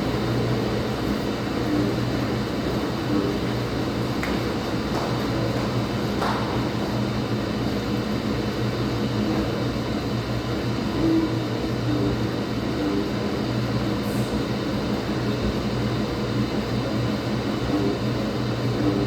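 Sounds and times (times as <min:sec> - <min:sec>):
washing machine humming and churning: 0:00.0 - 0:19.0.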